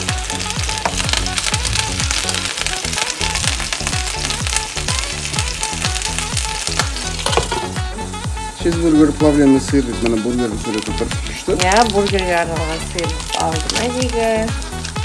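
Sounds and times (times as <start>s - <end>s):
background music with a beat: 0.0s - 15.0s
burger patties sizzling: 0.0s - 15.0s.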